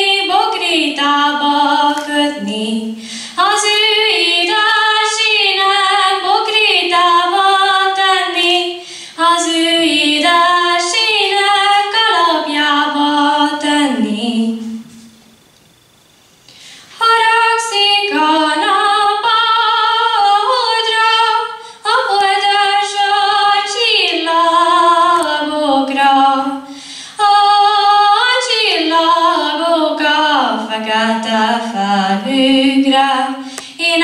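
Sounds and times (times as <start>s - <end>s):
girl singing unaccompanied: 0.0s - 14.9s, 17.0s - 34.0s.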